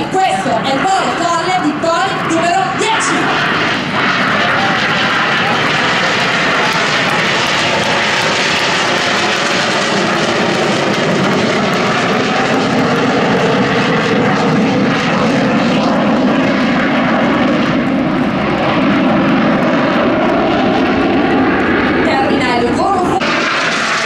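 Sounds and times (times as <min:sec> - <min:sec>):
jet engine running overhead: 0:00.0 - 0:24.0.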